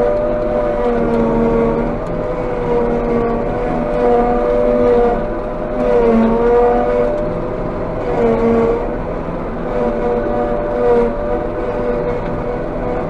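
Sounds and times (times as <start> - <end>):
harvester droning whine: 0.0 - 13.0.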